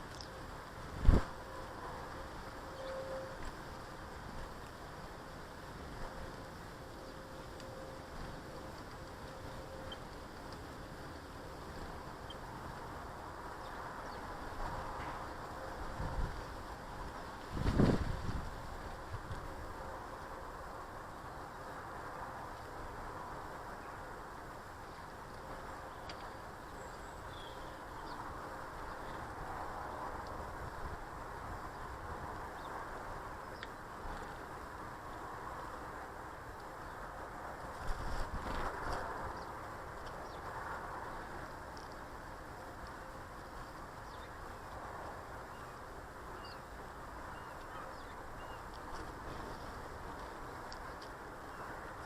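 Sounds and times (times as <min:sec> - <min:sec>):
garden background noise: 0:00.0 - 0:52.0
outdoor background hiss: 0:00.0 - 0:52.0.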